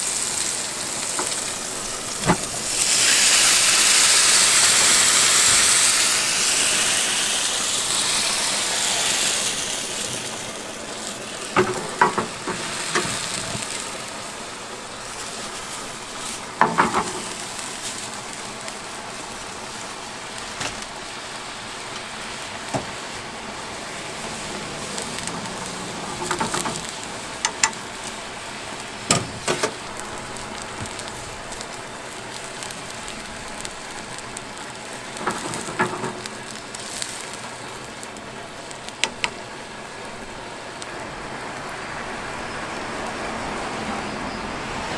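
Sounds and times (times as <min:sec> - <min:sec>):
liquid hissing in hot pan: 0:00.0 - 0:43.9
sauce bubbling and sizzling: 0:00.0 - 0:44.9.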